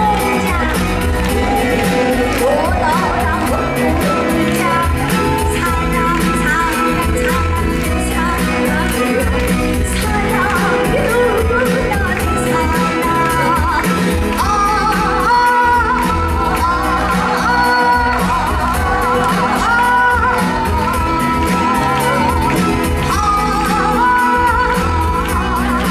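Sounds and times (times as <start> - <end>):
music with a steady beat: 0.0 - 25.9
woman singing into a microphone: 0.0 - 25.9.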